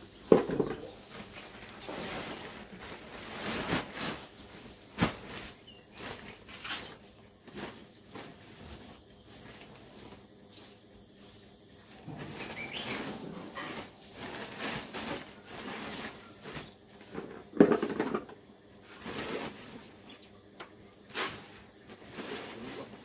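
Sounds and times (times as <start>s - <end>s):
sack and feed rustling: 0.8s - 17.2s, 18.8s - 20.1s, 21.1s - 23.0s.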